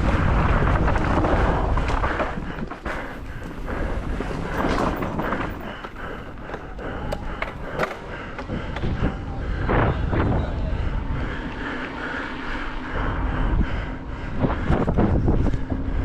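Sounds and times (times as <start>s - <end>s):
bike tyre rumble over dirt: 0.0s - 16.0s.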